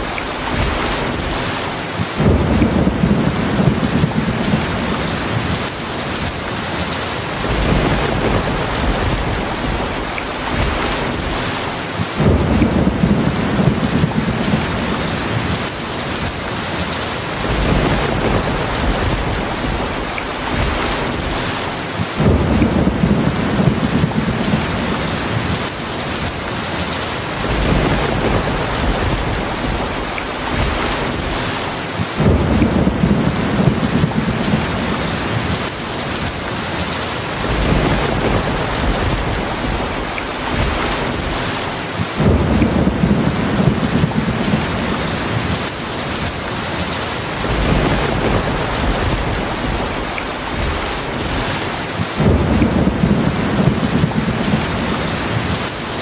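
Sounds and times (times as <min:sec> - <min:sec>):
thunder rolling: 0:00.0 - 0:55.8
heavy rain: 0:00.0 - 0:56.0.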